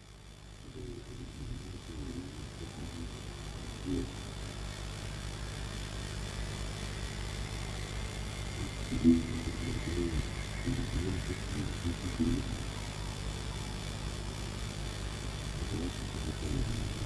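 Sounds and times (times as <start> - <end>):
droning horror soundtrack: 0.4 - 17.0.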